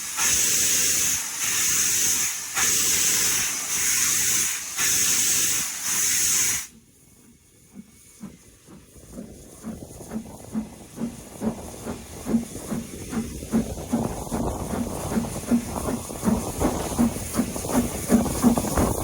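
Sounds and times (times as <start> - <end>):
locomotive steam hissing: 0.0 - 19.0.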